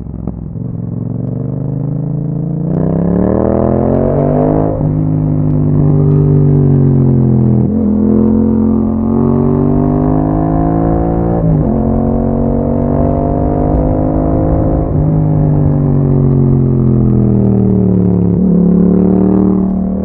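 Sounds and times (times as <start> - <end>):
motorcycle engine while riding: 0.0 - 20.0.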